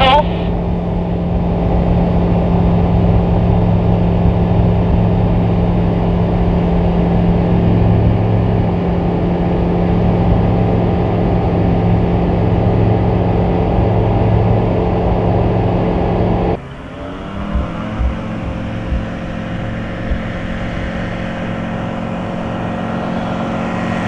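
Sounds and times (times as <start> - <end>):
aircraft engine droning: 0.0 - 24.0.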